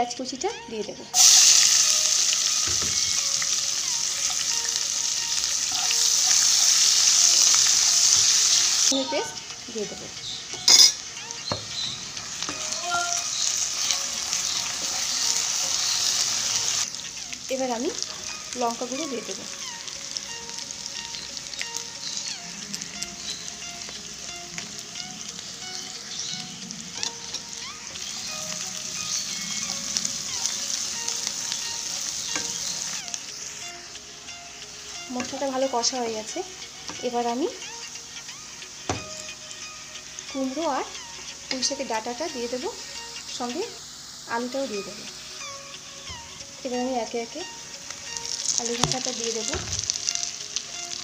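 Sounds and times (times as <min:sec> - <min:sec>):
onion sizzling in hot oil: 0:00.0 - 0:51.0.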